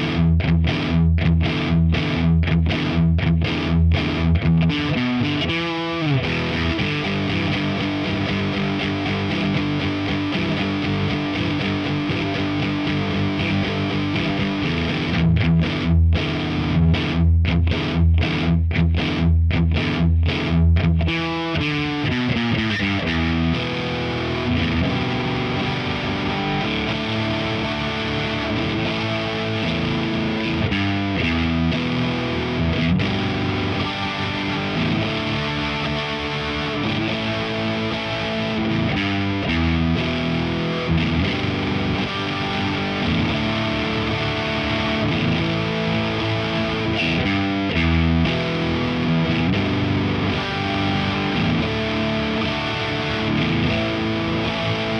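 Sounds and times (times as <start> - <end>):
distorted electric guitar: 0.0 - 54.9.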